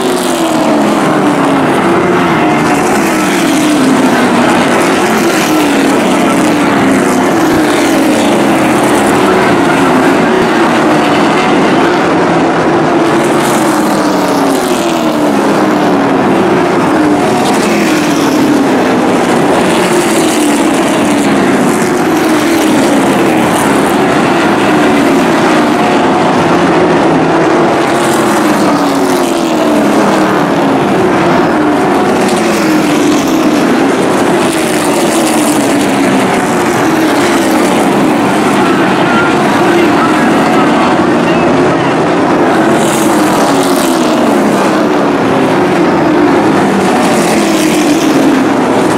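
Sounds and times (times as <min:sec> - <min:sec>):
race truck engines passing: 0:00.0 - 0:48.9.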